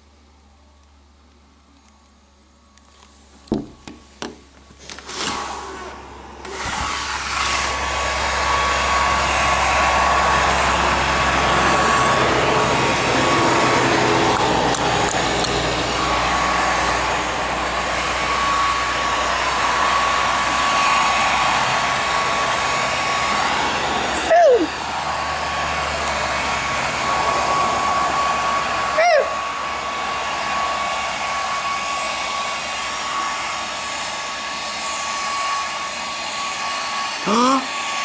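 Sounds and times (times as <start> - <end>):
small blower motor whirring: 2.8 - 38.0.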